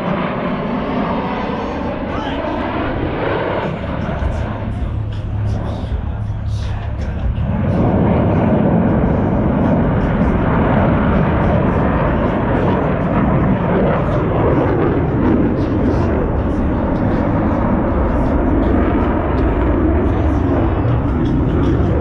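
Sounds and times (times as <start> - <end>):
jet engines roaring in flight: 0.0 - 22.0.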